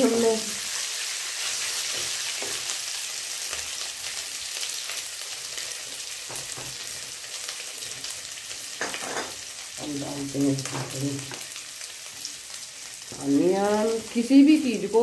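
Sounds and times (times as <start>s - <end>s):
ginger sizzling in hot oil: 0.0s - 15.0s.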